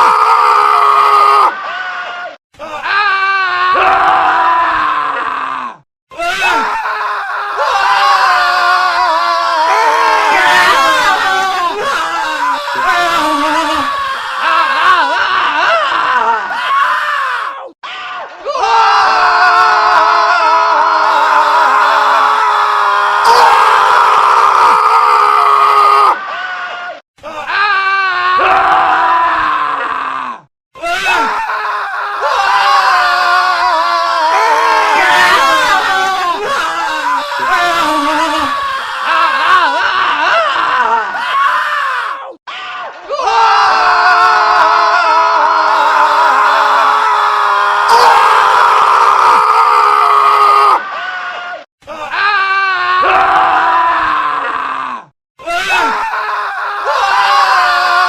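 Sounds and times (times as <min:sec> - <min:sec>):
men screaming: 0:00.0 - 0:58.0.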